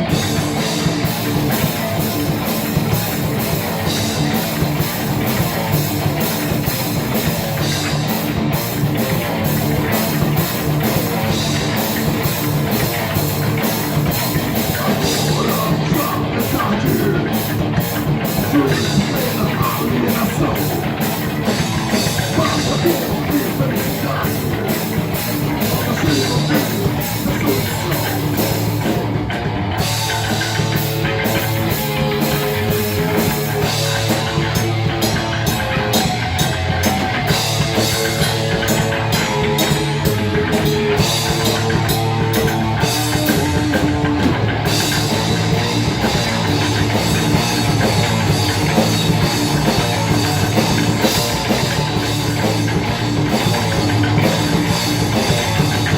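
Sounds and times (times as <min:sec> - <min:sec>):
distorted instruments playing: 0:00.0 - 0:55.9
drum kit pounding fast: 0:00.0 - 0:55.9.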